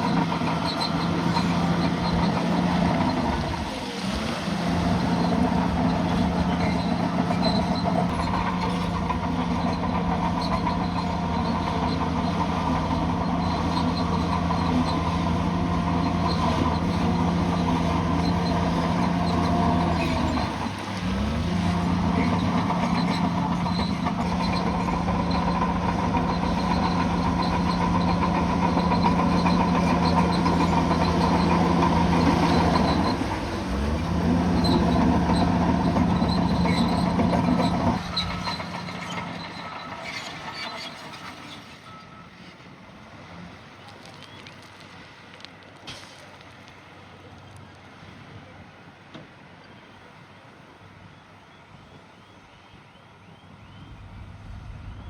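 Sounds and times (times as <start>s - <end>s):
bulldozer diesel engine running: 0.0s - 45.7s, 53.5s - 55.0s.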